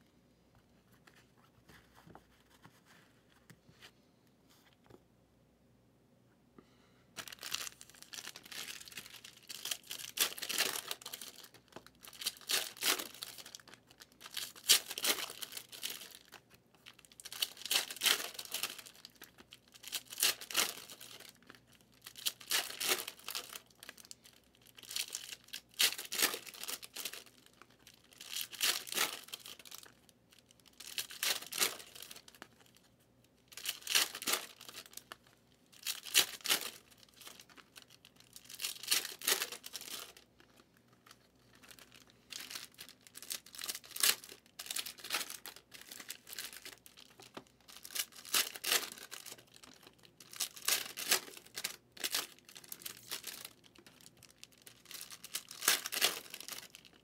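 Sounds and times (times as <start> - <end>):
wrappers tearing and crinkling: 7.2 - 32.9, 33.5 - 57.0.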